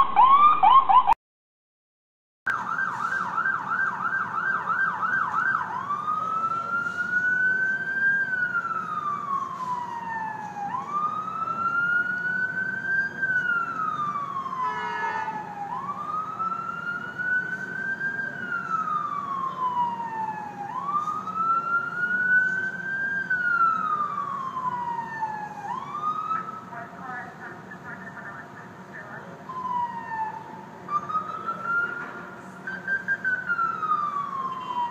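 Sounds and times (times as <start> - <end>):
ambulance siren wailing: 0.0 - 1.2, 2.5 - 34.9.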